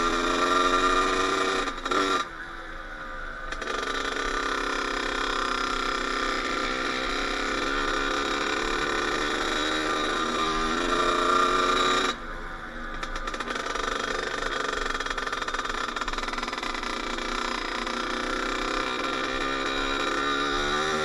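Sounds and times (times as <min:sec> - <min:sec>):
two-stroke motorcycle engine revving: 0:00.0 - 0:02.4, 0:03.5 - 0:21.0.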